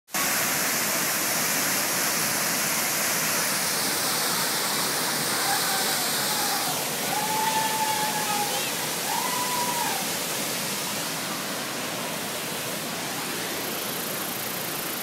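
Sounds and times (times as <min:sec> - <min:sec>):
waterfall rushing: 0:00.2 - 0:15.0.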